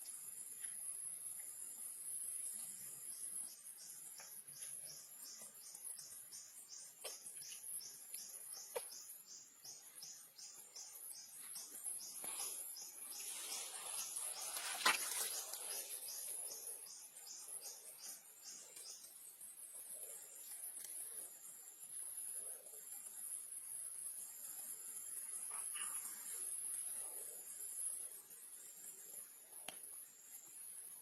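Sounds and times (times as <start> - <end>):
insect chirping: 0.0 - 31.0.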